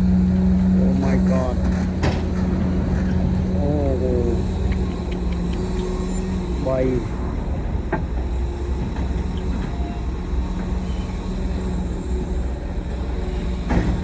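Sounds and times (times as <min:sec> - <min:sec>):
diesel machinery droning: 0:00.0 - 0:14.0.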